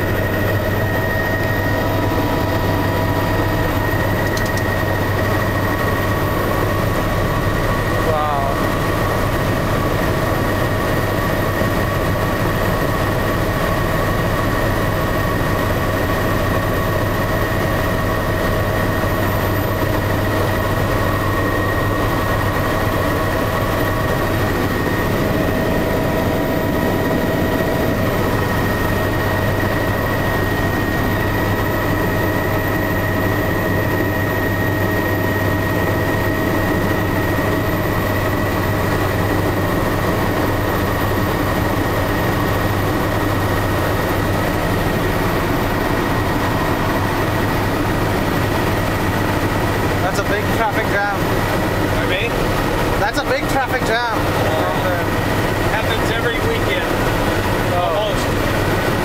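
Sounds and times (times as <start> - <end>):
helicopter drone: 0.0 - 59.0
helicopter whining tones: 0.0 - 59.0.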